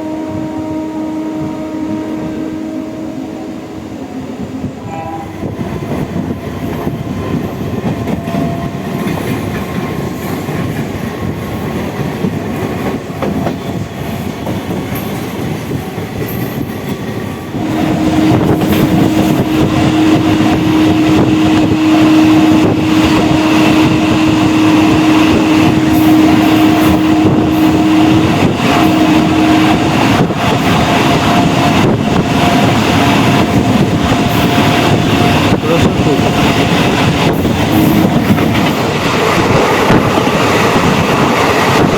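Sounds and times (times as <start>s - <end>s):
train wheels clacking on rails: 4.7s - 41.9s.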